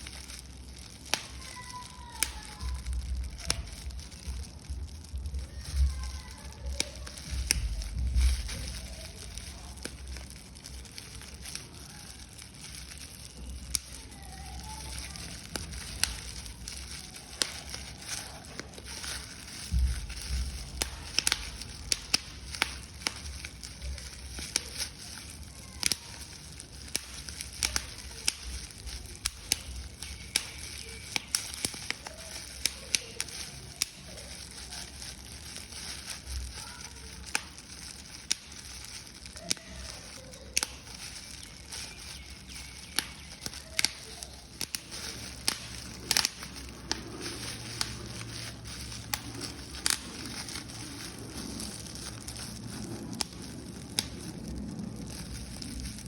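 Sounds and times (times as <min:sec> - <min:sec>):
paper crumpling: 0:00.0 - 0:56.0.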